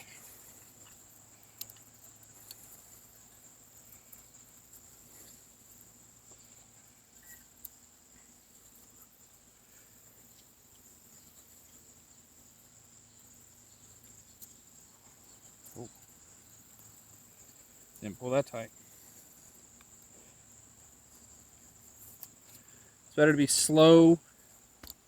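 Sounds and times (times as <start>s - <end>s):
high-pitched insect trill: 0.0s - 25.0s.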